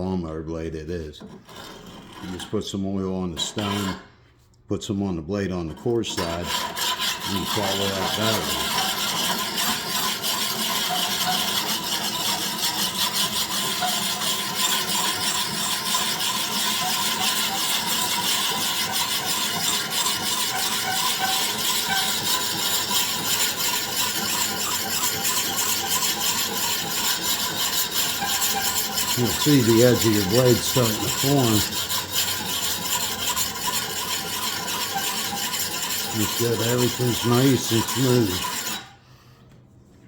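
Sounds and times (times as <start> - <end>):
sharpening stone scraping metal blade: 6.6 - 39.0.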